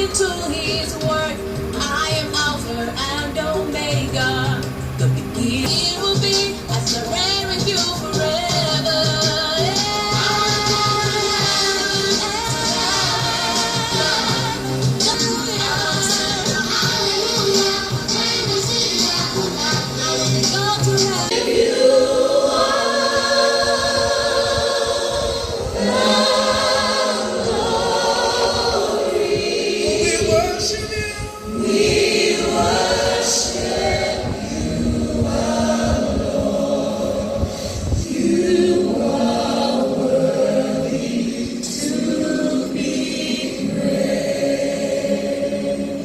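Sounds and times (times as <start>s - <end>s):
choir singing gospel music: 0.0s - 46.0s.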